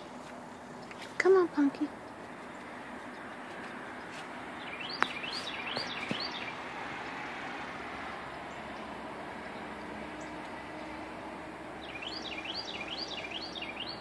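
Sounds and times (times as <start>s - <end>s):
outdoor background noise: 0.0s - 14.0s
songbird chirping: 0.0s - 14.0s.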